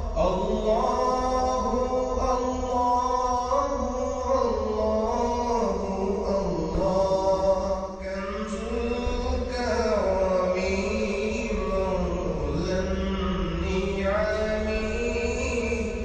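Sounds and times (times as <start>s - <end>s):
chanting-style vocal music: 0.0s - 16.0s.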